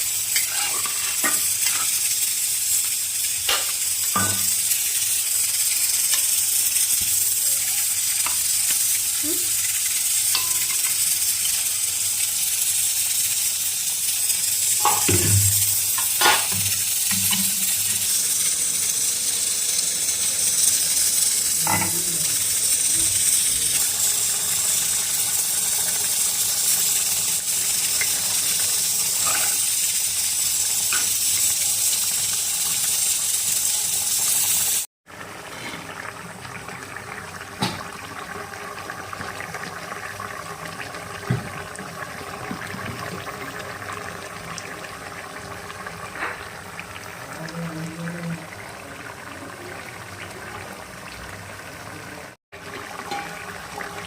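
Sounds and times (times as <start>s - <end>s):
bubbling simmer: 0.0s - 33.8s, 35.1s - 54.0s
chicken sizzling in a pan: 0.0s - 54.0s.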